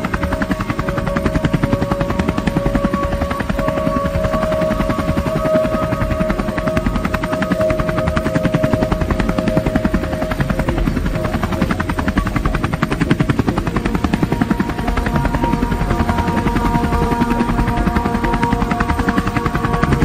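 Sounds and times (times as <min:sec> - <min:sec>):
helicopter rotor chopping: 0:00.0 - 0:20.0
sustained music tones: 0:00.0 - 0:20.0.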